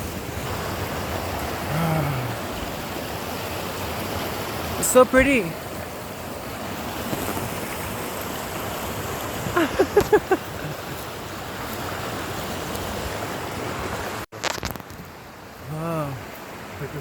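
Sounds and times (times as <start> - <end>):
mountain stream rushing: 0.0 - 17.0.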